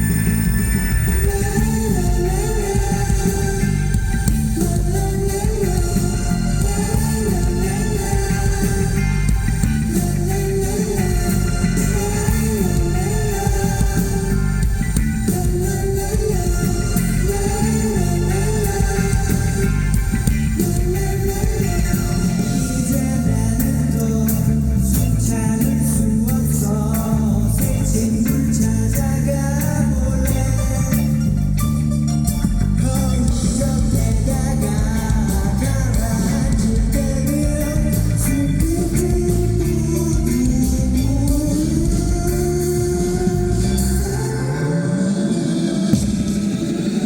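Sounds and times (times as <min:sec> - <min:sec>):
live band with guitar: 0:00.0 - 0:47.0.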